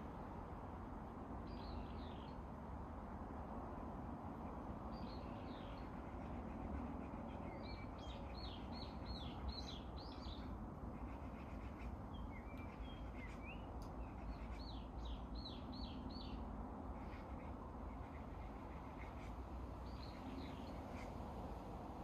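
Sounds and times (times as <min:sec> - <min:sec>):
wind in trees: 0:00.0 - 0:22.0.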